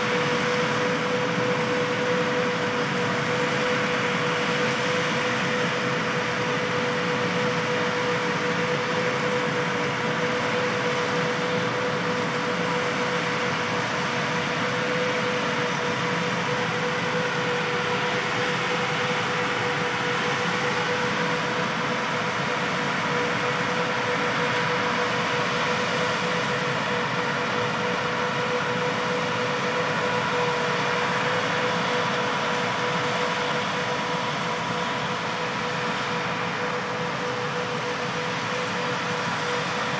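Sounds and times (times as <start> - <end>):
farm machinery drone with whine: 0.0 - 39.9.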